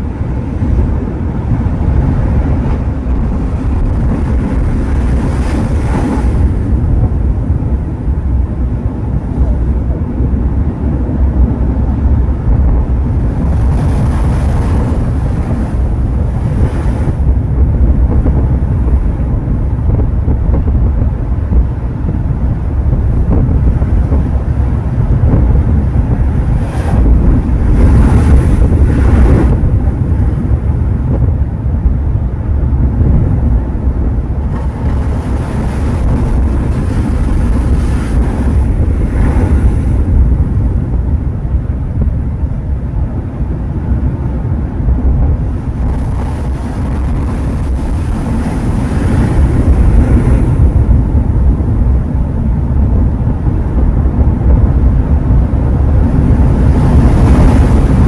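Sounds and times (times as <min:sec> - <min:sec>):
sea waves breaking: 0:00.0 - 0:58.0
wind rumbling on microphone: 0:00.0 - 0:58.0.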